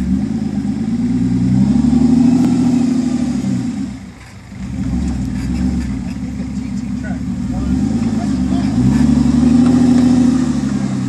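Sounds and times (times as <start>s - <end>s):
engine pulling at low speed: 0.0s - 11.0s.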